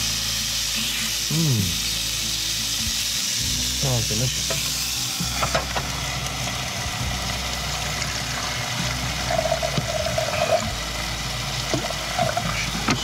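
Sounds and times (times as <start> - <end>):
meat sizzling in pan: 0.0 - 13.0.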